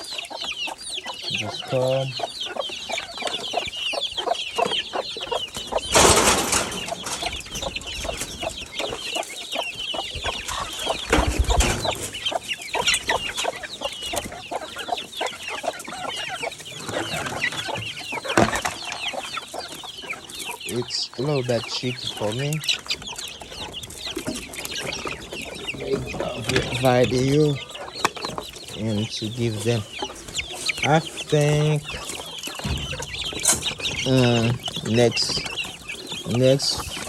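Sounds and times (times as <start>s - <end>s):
chickens clucking: 0.0s - 37.0s
chicks peeping: 0.0s - 37.0s.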